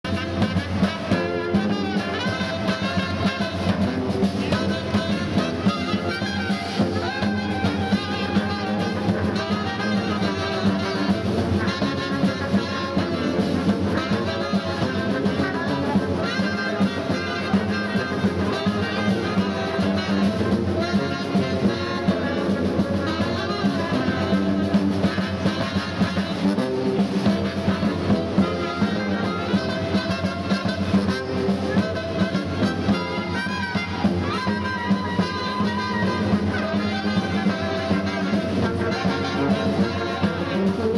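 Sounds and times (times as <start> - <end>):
saxophone: 0.0 - 40.9
trombone: 0.0 - 40.9
trumpet: 0.0 - 40.9.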